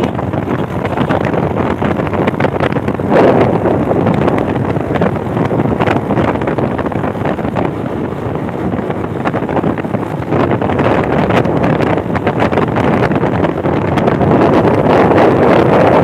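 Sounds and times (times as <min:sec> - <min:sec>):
motorcycle running: 0:00.0 - 0:16.0
wind buffeting microphone: 0:00.0 - 0:16.0.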